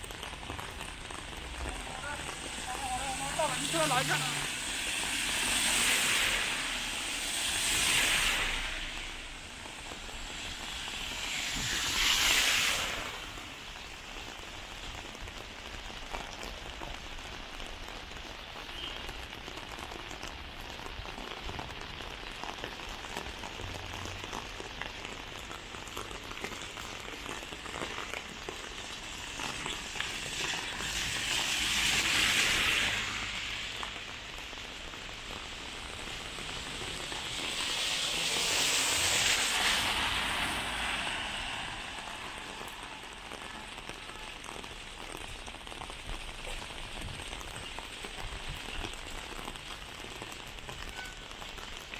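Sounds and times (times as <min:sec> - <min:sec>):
car tyres hissing on wet road: 0:00.0 - 0:51.9
heavy rain falling: 0:00.0 - 0:51.9
raindrops ticking on umbrella: 0:00.0 - 0:51.9.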